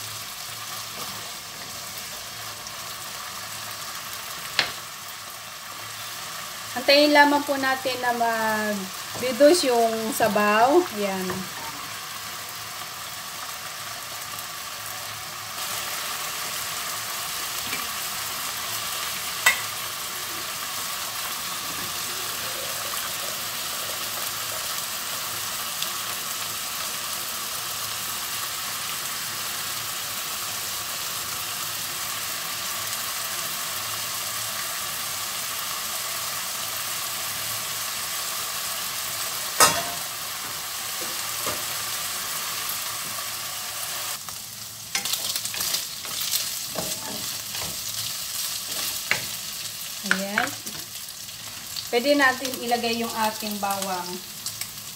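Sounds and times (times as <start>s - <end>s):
chicken sizzling in a wok: 0.0s - 54.9s.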